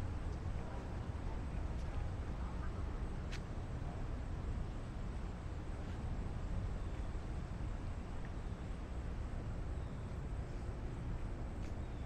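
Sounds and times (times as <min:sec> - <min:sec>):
city ambience rumble: 0:00.0 - 0:12.0.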